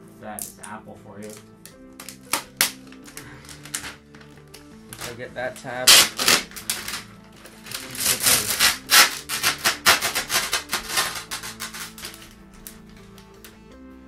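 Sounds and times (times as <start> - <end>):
quiet background music: 0.0 - 14.0
plastic film peeling and crinkling: 1.2 - 13.6.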